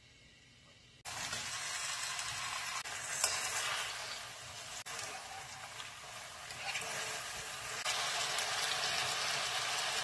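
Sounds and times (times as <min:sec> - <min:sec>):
noodles sizzling in a frying pan: 0:01.0 - 0:10.0.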